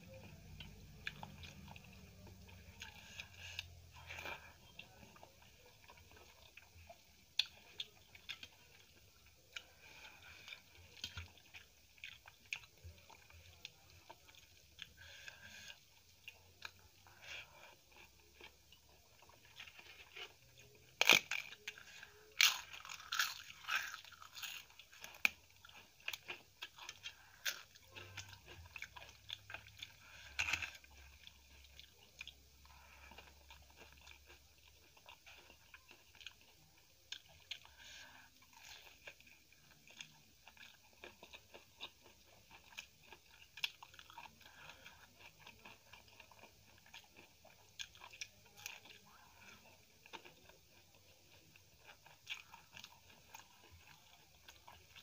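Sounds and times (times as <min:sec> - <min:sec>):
crunchy chewing: 0:00.1 - 0:55.0.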